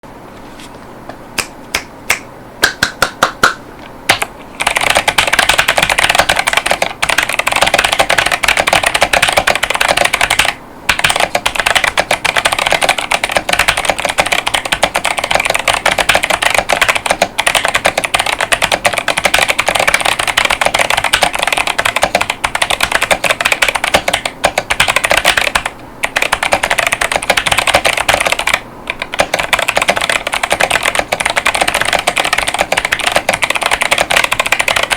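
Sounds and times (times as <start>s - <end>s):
typing on clicky keyboard: 4.1s - 34.9s.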